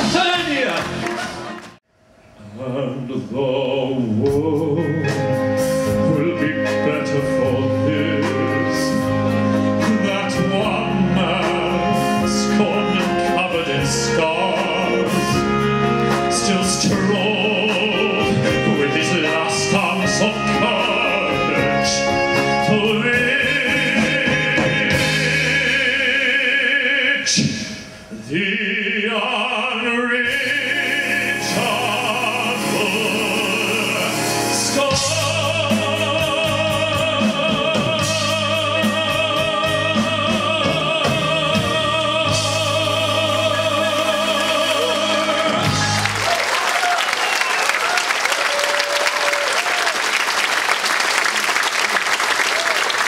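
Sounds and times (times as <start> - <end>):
man singing operatically: 0.0 - 1.1, 2.4 - 46.2
live band playing: 0.0 - 1.8, 4.3 - 26.4, 30.3 - 53.0.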